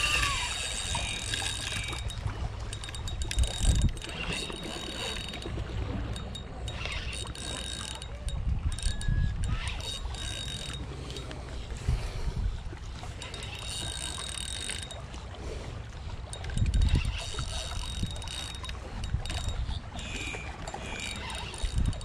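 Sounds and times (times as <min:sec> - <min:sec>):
wind rumbling on microphone: 0:00.0 - 0:07.2, 0:08.1 - 0:13.6, 0:15.5 - 0:22.0
fishing reel ticking: 0:00.0 - 0:22.0.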